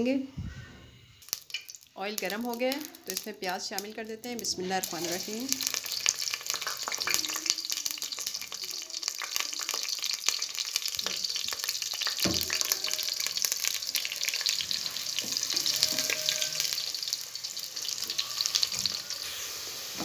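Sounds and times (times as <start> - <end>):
onions sizzling in oil: 1.2 - 20.0.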